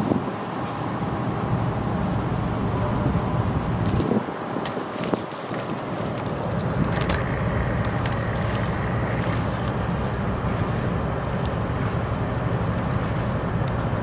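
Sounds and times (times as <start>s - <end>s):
wind buffeting microphone: 0.0s - 0.6s, 1.2s - 14.0s
ship engine low rumble: 0.0s - 14.0s.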